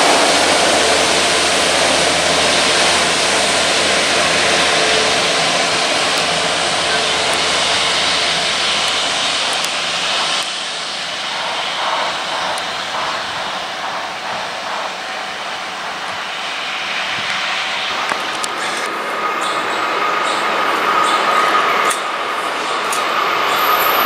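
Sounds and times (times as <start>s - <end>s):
diesel locomotive running: 0.0s - 24.0s
water jets hissing on rails: 0.0s - 24.0s.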